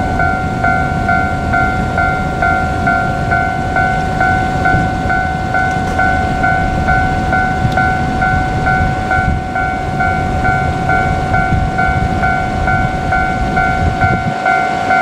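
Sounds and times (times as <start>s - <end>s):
low rumble: 0.0s - 14.6s
level-crossing warning bell: 0.0s - 15.0s.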